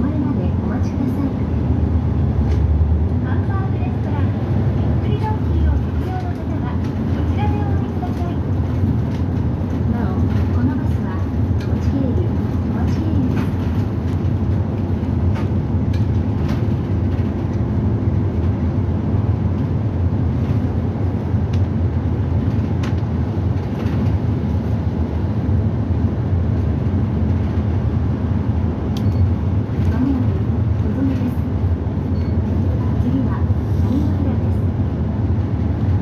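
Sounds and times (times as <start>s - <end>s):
bus engine and road drone: 0.0s - 36.0s.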